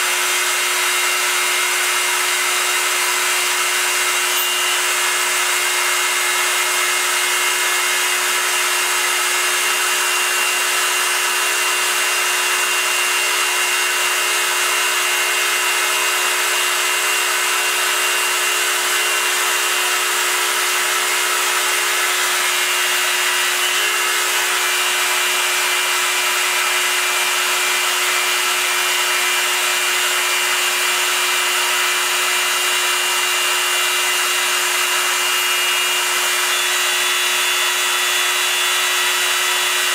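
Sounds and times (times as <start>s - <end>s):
cutter milling aluminium: 0.0s - 39.9s
milling machine spindle whine: 0.1s - 39.9s.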